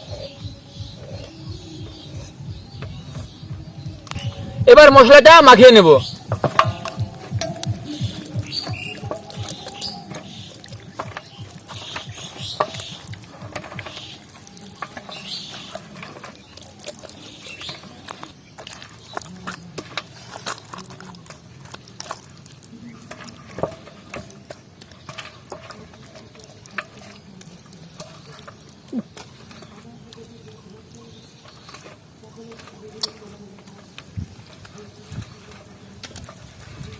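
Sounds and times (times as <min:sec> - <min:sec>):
hands squelching wet paste: 0:00.0 - 0:36.9.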